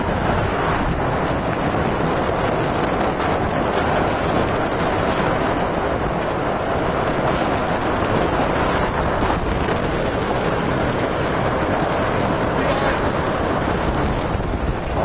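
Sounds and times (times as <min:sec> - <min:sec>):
strong wind with driving rain: 0:00.0 - 0:15.0
wind buffeting microphone: 0:00.0 - 0:15.0.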